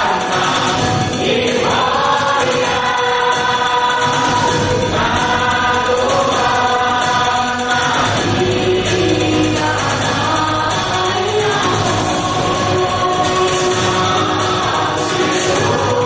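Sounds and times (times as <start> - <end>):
youth choir singing: 0.0 - 16.0.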